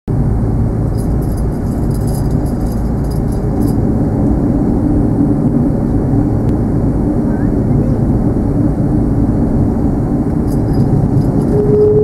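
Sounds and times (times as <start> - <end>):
jet engines rumbling: 0.1 - 12.0.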